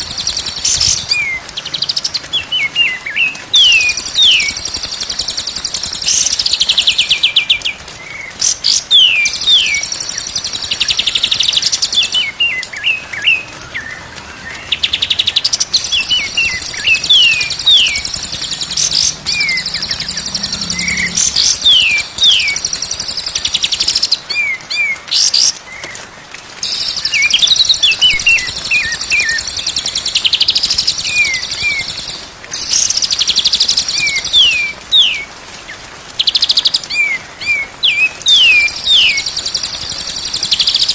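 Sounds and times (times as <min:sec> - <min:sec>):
bird song whistles and trills: 0:00.0 - 0:26.0, 0:26.6 - 0:35.3, 0:36.2 - 0:40.9.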